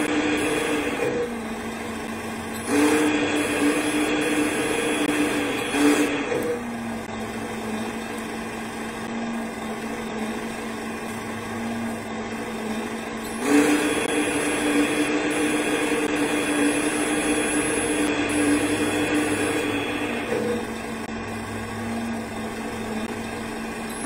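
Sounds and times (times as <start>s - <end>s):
small electric motor whining: 0.0s - 24.0s.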